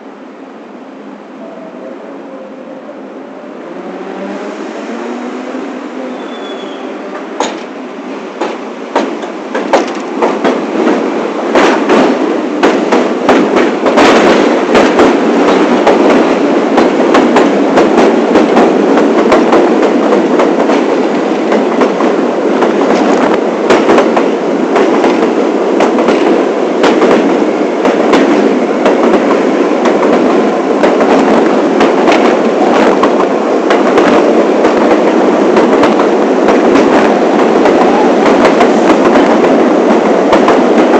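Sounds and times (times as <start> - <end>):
subway train clattering on tracks: 0.0 - 40.9.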